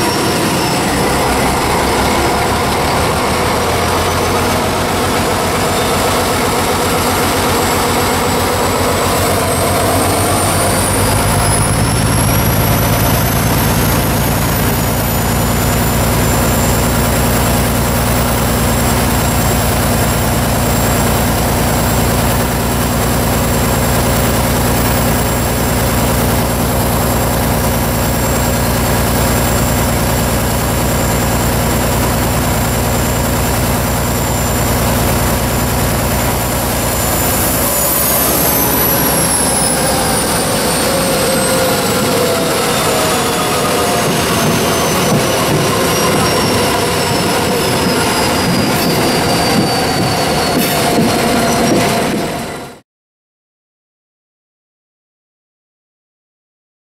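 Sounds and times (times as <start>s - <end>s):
diesel locomotive engine running: 0.0s - 52.8s
high whine rising in pitch: 0.0s - 52.8s.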